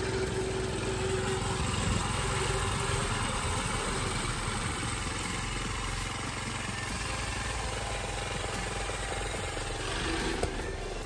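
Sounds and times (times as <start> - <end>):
go-kart engine running: 0.0 - 11.0
thin steady whine: 0.0 - 11.0.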